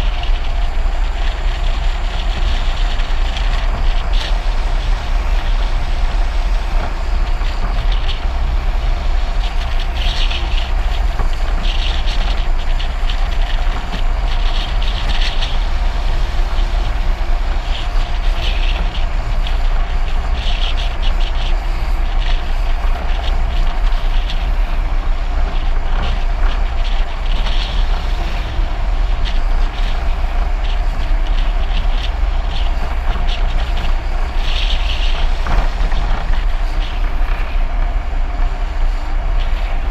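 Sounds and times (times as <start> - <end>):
road rumble: 0.0 - 39.9
wind: 0.0 - 39.9.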